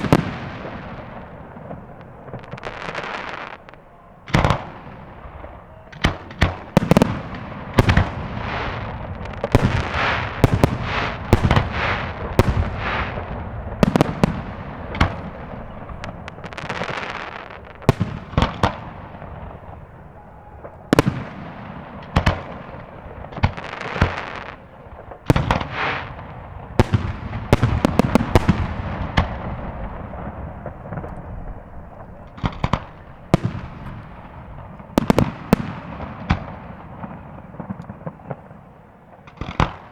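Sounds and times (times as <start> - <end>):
fireworks bangs: 0.0 - 39.9
fireworks crackling and hissing: 0.0 - 39.9.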